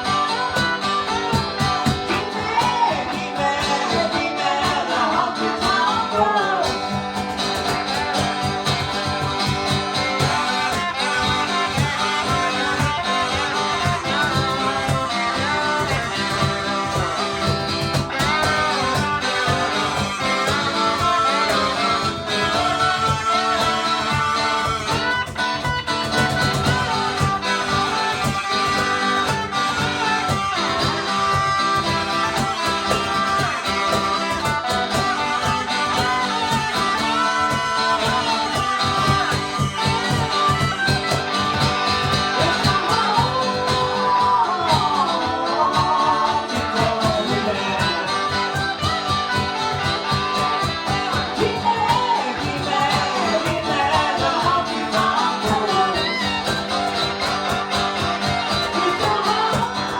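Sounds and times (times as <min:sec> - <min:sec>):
acoustic guitar: 0:00.0 - 0:59.9
cajon beat: 0:00.0 - 0:59.9
electric guitar: 0:00.0 - 0:59.9
person singing: 0:00.0 - 0:59.9.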